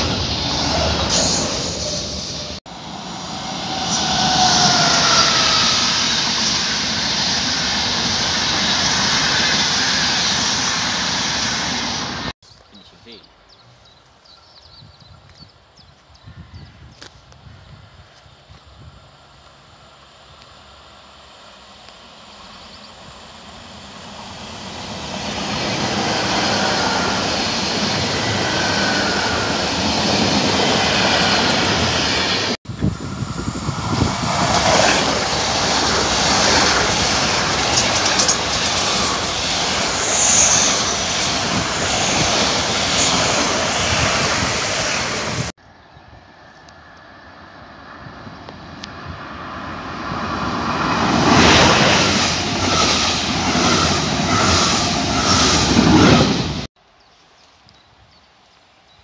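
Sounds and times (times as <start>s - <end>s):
another train approaching: 0.0s - 12.4s, 18.9s - 56.7s
high-speed train rushing past: 0.0s - 12.4s, 19.0s - 56.7s.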